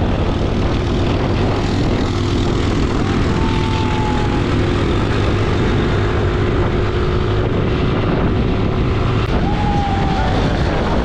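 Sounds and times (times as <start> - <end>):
motorcycle engine drone: 0.0 - 11.0
wind rush on microphone: 0.0 - 11.0.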